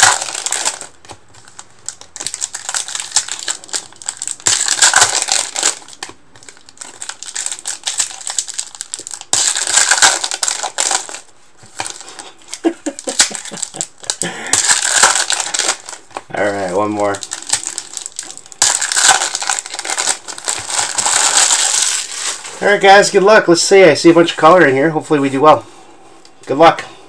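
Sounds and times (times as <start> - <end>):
foil wrappers tearing and crinkling: 0.0 - 22.7.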